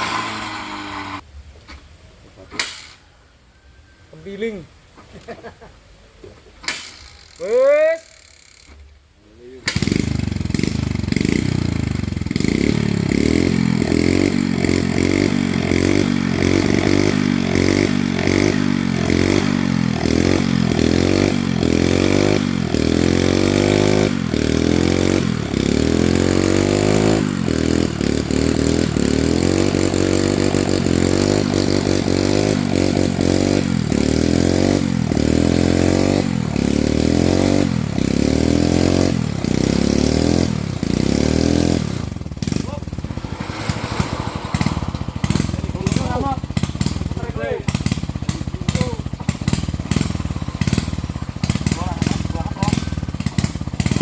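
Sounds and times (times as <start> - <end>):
small motorcycle engine revving: 0.0 - 1.2, 6.8 - 54.0.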